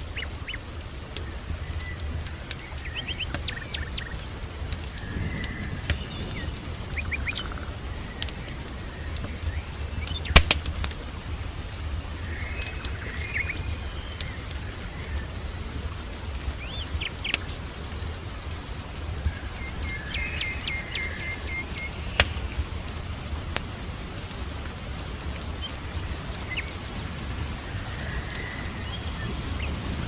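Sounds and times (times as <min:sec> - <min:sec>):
fire popping: 0:00.0 - 0:30.0
small birds chirping: 0:00.0 - 0:30.0
wood fire crackling: 0:00.0 - 0:30.0.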